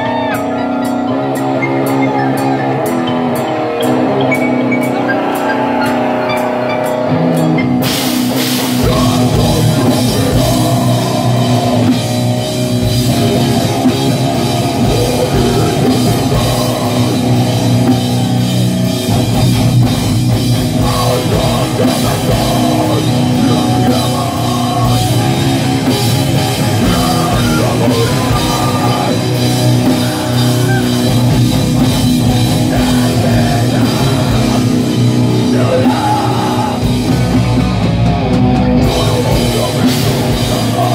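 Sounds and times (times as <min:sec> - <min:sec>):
distorted electric guitars and bass: 0:00.0 - 0:40.9
drum kit with cymbals: 0:00.0 - 0:40.9.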